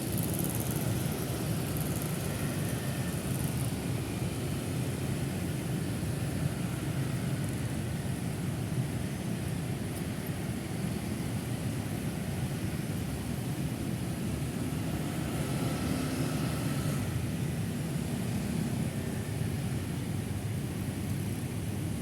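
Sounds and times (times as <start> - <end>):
road traffic drone: 0.0 - 22.0.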